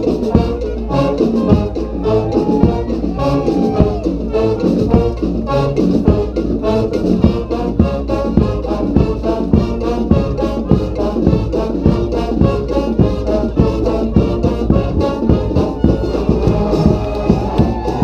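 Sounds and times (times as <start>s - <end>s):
brass band playing: 0.0s - 18.0s
percussion beat: 0.0s - 18.0s.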